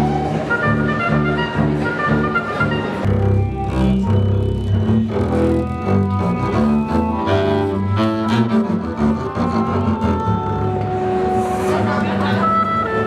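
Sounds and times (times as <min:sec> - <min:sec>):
double basses bowing low notes: 0:00.0 - 0:13.0.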